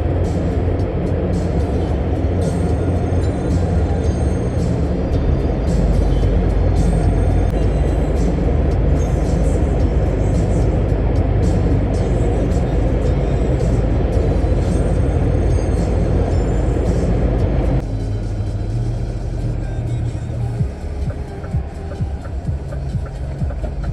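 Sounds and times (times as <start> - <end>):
background music: 0.0 - 23.9
road noise: 0.0 - 23.9
truck engine drone: 0.0 - 23.9.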